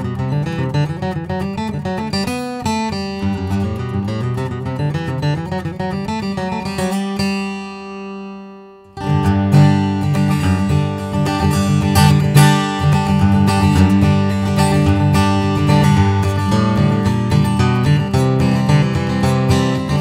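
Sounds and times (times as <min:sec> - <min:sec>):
acoustic guitar fingerstyle: 0:00.0 - 0:20.0.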